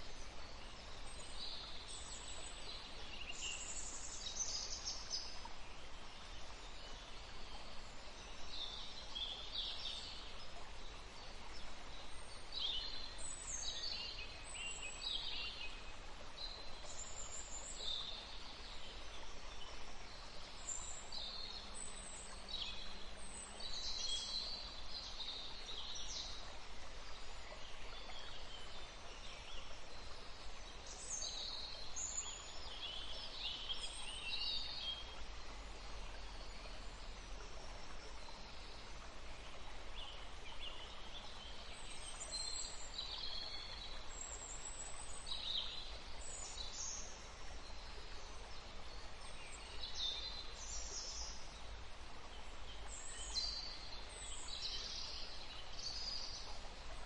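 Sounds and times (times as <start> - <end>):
faint background hiss: 0.0 - 57.0.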